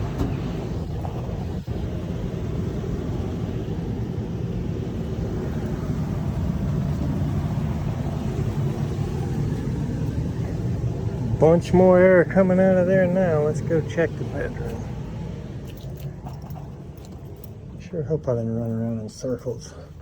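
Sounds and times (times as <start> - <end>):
furnace blower air rushing: 0.0 - 20.0.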